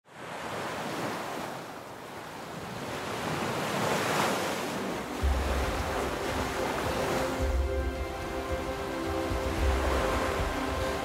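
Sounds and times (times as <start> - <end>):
waves washing on sand: 0.1 - 11.0.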